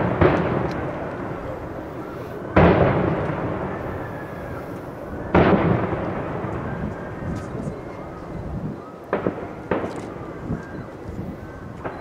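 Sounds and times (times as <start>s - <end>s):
firework bang echoing: 0.0s - 8.2s, 9.1s - 10.6s.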